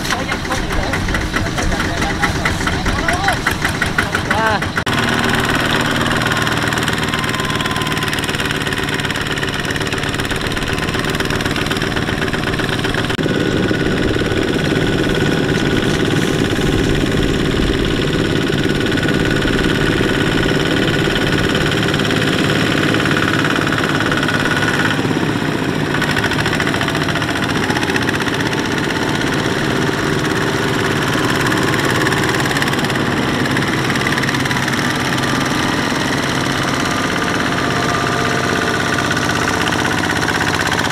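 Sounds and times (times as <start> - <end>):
diesel tiller engines running: 0.0 - 40.9.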